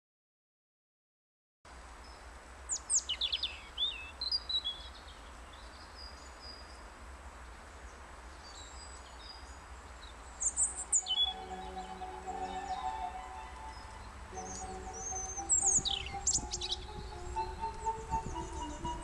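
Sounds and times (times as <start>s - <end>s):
robin singing: 2.0s - 6.9s, 7.8s - 19.0s.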